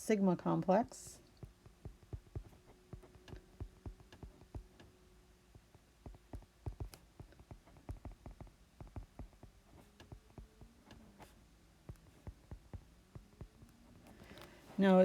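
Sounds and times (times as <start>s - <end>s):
faint steady hum: 0.0s - 15.0s
stylus tapping on tablet screen: 1.3s - 14.6s.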